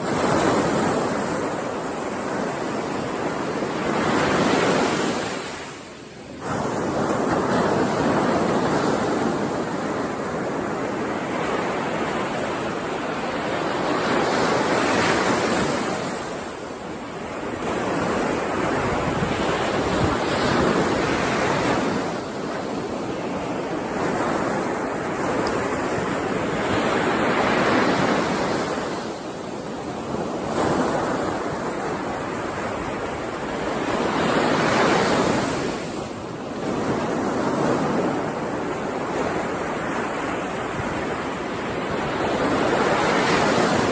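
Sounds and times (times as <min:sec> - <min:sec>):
ocean waves on shore: 0:00.0 - 0:43.9.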